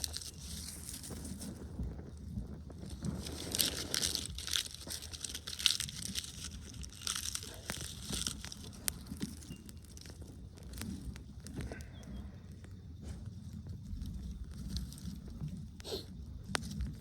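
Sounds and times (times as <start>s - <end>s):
dry plant material crunching: 0.0s - 17.0s.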